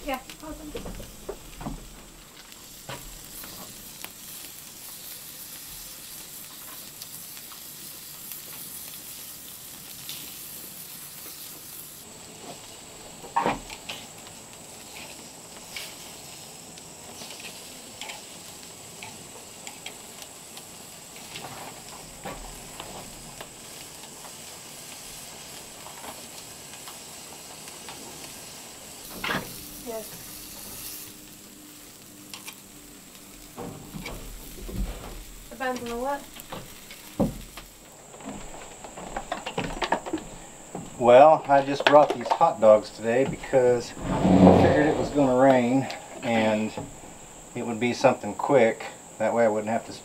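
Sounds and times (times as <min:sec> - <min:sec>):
hot dogs sizzling on grill: 0:00.0 - 0:50.0.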